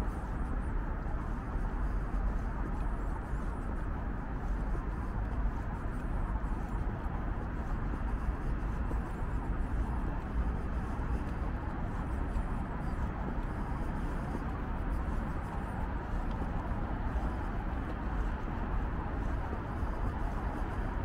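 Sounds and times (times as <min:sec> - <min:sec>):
outdoor low rumble: 0:00.0 - 0:21.0.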